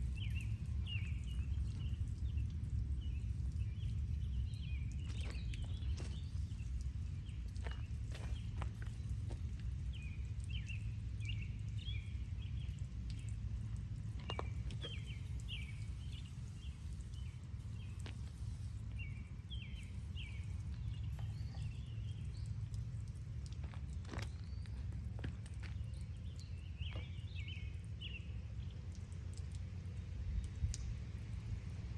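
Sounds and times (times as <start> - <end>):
small birds chirping: 0.0 - 31.0
steady low rumble: 0.0 - 31.9.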